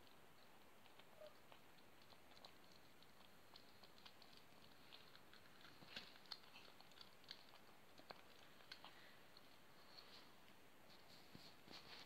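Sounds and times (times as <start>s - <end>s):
kitten crunching dry kibble: 0.0s - 12.0s.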